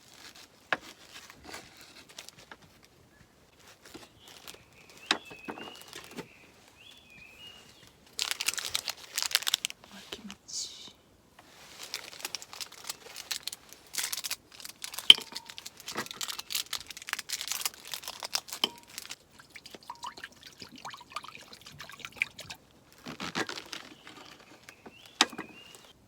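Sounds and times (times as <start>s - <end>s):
packaging crinkling: 0.0s - 2.9s, 3.6s - 6.3s, 7.8s - 9.9s, 11.5s - 26.0s.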